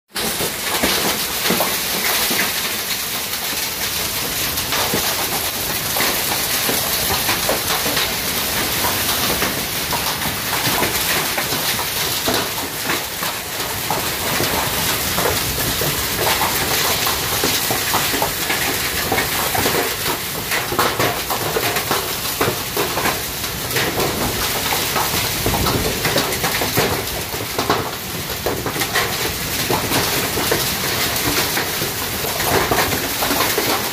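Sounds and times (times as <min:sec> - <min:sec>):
rain on ground: 0:00.1 - 0:33.9
rain on metal roof: 0:00.1 - 0:33.9.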